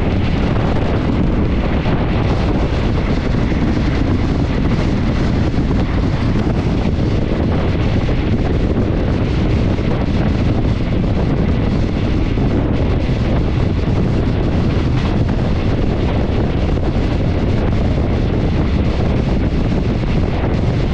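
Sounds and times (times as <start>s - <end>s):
train rumbling on track: 0.0s - 20.9s
wind buffeting microphone: 0.0s - 20.9s.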